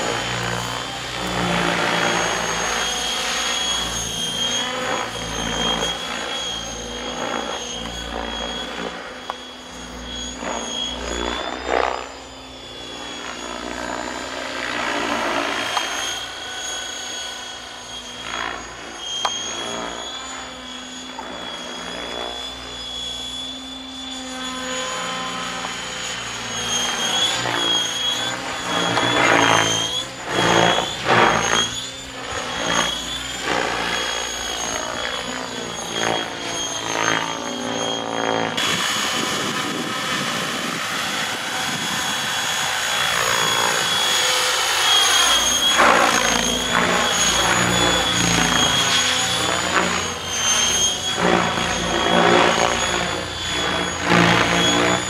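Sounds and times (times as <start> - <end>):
model helicopter motor whine: 0.0 - 55.0.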